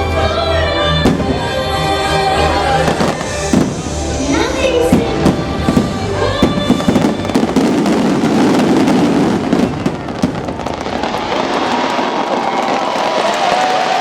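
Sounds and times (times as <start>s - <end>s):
show music: 0.0s - 12.2s
fireworks bangs: 1.0s - 14.0s
fireworks crackling: 1.0s - 14.0s.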